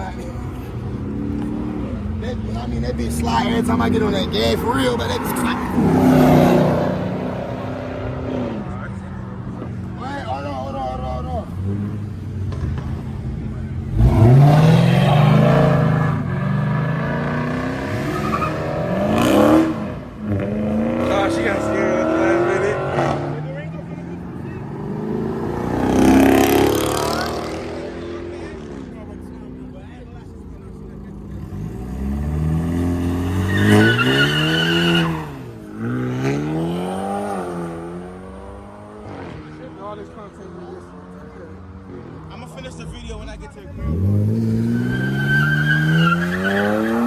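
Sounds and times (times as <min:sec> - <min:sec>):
tires squealing: 0:00.0 - 0:40.4, 0:41.2 - 0:47.0
car engine revving: 0:00.0 - 0:47.0.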